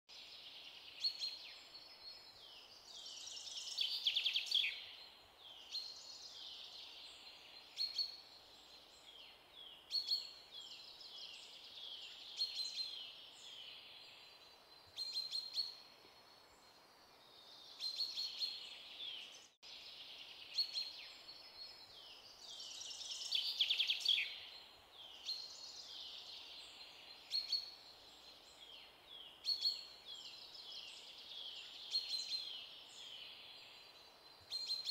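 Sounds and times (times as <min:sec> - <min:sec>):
faint hiss: 0:00.1 - 0:34.9
birds chirping and trilling: 0:00.6 - 0:34.9.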